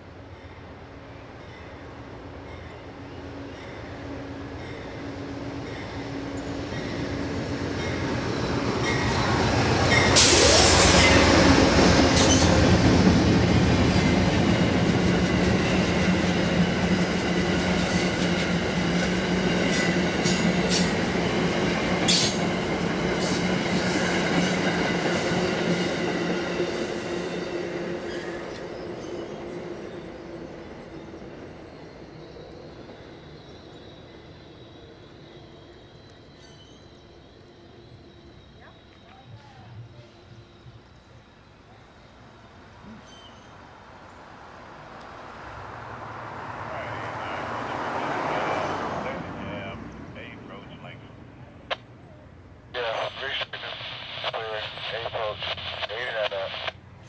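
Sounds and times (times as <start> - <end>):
diesel locomotive passing: 0.0 - 57.0.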